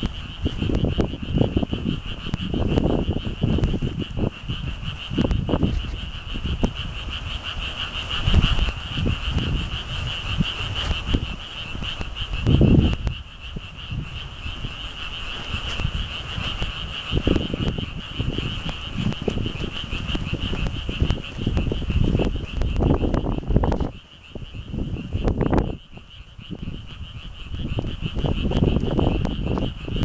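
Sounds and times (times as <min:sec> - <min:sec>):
frogs trilling: 0:00.0 - 0:30.0
wind gusting on microphone: 0:00.0 - 0:30.0.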